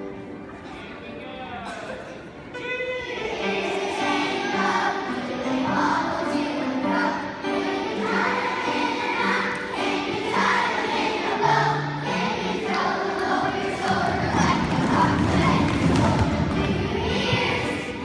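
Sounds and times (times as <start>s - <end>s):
children's choir singing: 2.6s - 18.0s.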